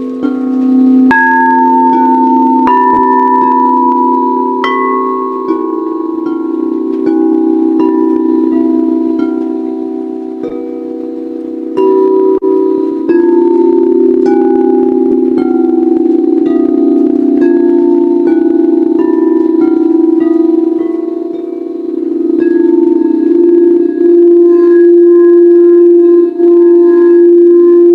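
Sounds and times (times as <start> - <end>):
singing bowl low hum: 0.0 - 27.9
singing bowls struck ringing: 0.0 - 27.9.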